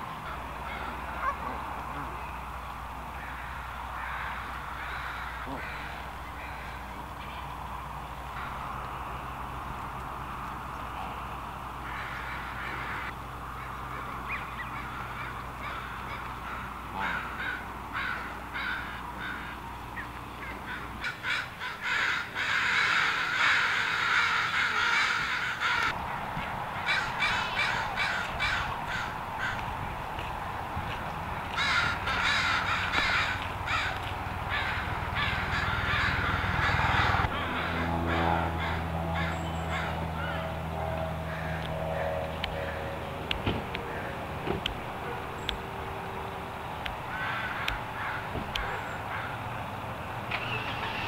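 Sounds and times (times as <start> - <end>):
geese honking: 0.0 - 2.4, 3.1 - 9.8, 10.7 - 29.6, 31.5 - 51.0.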